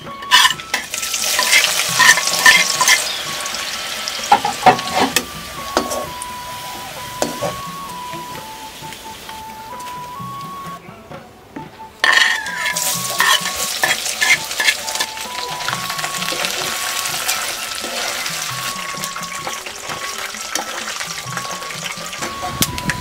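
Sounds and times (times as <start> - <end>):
metal utensil scraping wok: 0.0 - 8.0, 12.0 - 23.0
food sizzling in hot oil: 0.2 - 9.9, 12.0 - 23.0.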